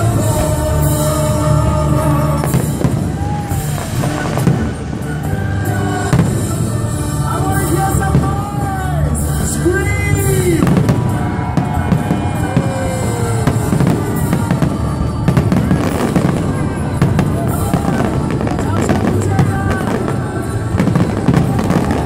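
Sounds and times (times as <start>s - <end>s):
fireworks bangs and crackle: 0.0s - 22.0s
music with singing and drums: 0.0s - 22.0s.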